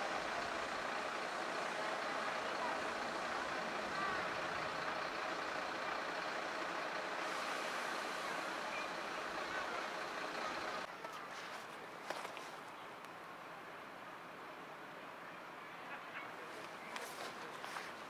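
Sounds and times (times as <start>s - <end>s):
emergency vehicles idling: 0.0s - 18.0s.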